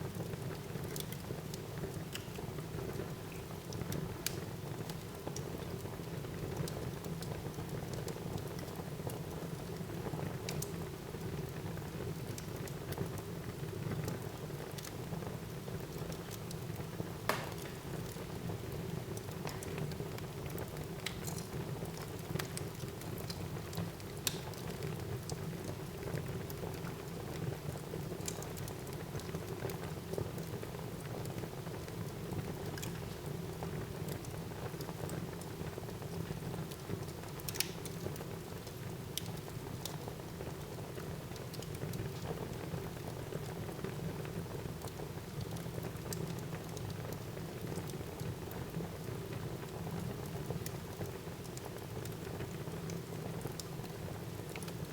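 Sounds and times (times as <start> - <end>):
fire crackles and pops: 0.0 - 54.9.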